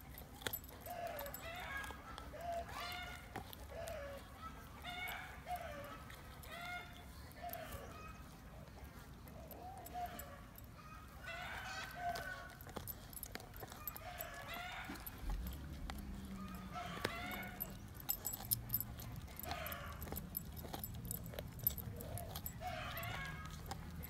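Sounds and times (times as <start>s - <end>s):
teeth clicking on bone: 0.0s - 8.0s, 8.7s - 24.0s
collar tag jangling: 0.0s - 24.0s
dog chewing meat off bones: 0.0s - 24.0s.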